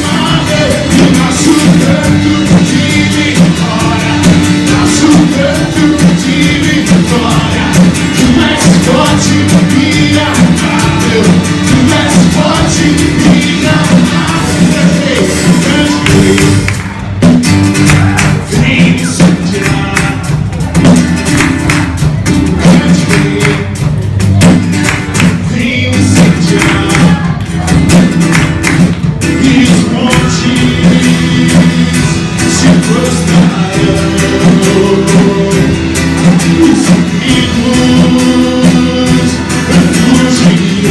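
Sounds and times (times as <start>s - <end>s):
guitar: 0.0s - 40.9s
steady percussion beat: 0.0s - 40.9s.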